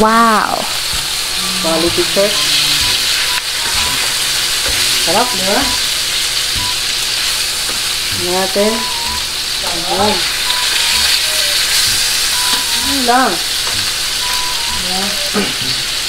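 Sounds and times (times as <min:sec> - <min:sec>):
steak sizzling in oil: 0:00.4 - 0:16.0.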